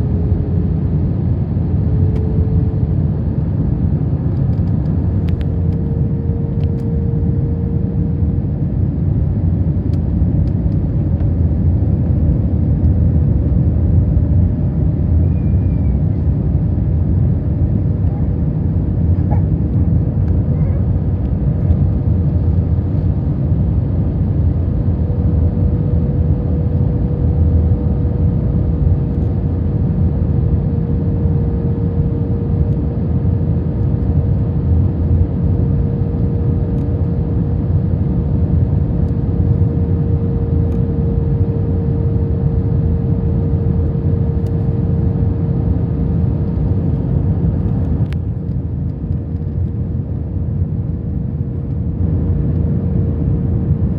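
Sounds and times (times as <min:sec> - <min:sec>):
mid-pitched hum: 0:00.0 - 0:53.9
rumble of engines and airflow: 0:00.0 - 0:53.9.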